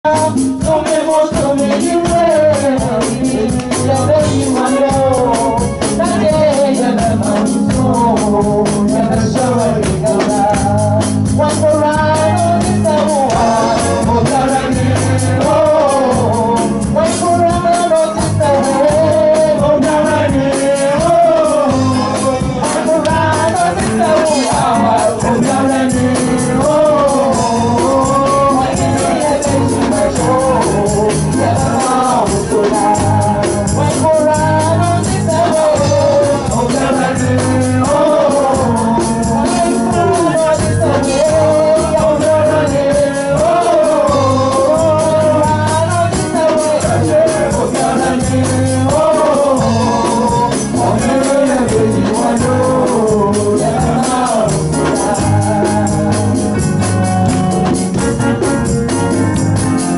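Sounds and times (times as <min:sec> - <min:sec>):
church band playing: 0:00.0 - 0:59.9
women singing gospel: 0:00.1 - 0:56.9.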